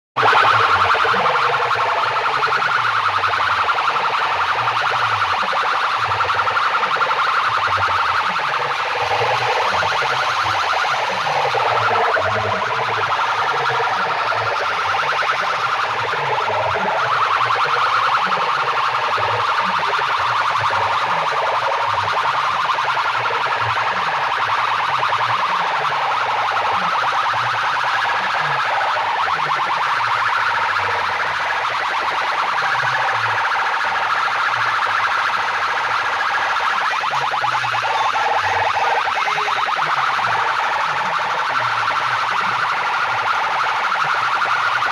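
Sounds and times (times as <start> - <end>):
siren-like wail: 0.2 - 44.9.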